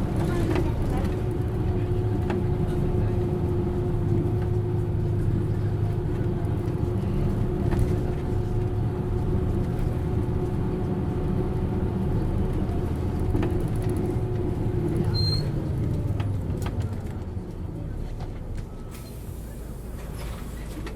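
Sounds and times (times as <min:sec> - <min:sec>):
bus diesel engine running: 0:00.0 - 0:20.9.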